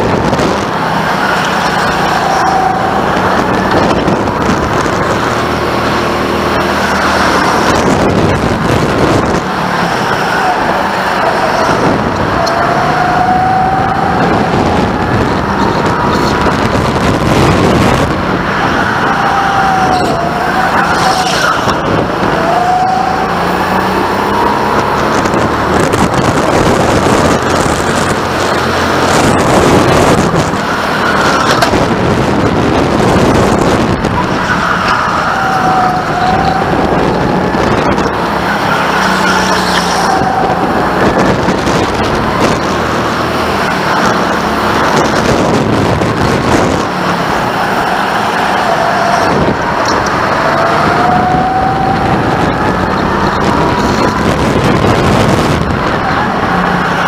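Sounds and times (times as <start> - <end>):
go-kart engine at speed: 0.0 - 57.0.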